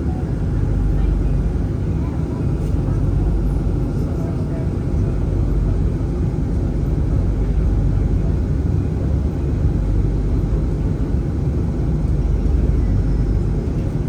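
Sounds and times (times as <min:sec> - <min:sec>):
tram rumbling: 0:00.0 - 0:14.0.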